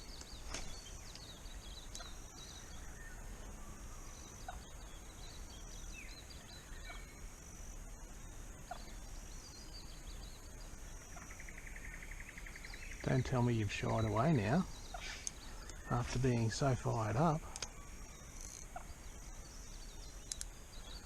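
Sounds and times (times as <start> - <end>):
birds chirping: 0.0 - 21.0
faint outdoor background noise: 0.0 - 21.0.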